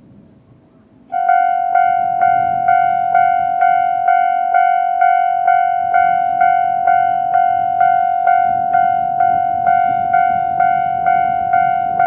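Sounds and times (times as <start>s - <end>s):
level crossing alarm bell: 1.1s - 12.0s.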